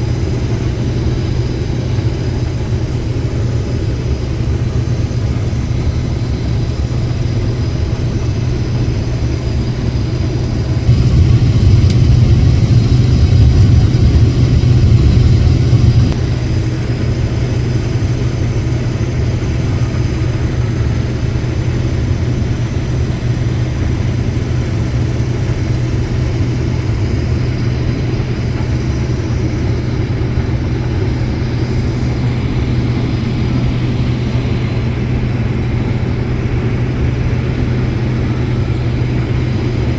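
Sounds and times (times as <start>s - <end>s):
harvest machinery engine droning: 0.0s - 39.9s.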